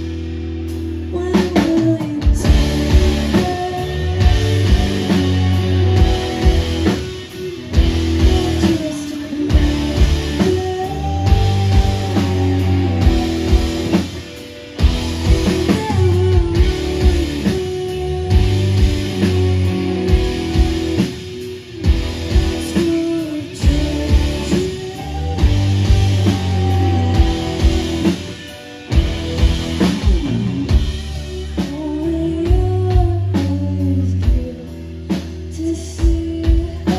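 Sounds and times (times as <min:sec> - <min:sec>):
rock band playing: 0:00.0 - 0:36.9
person singing: 0:01.0 - 0:29.0, 0:30.0 - 0:36.9.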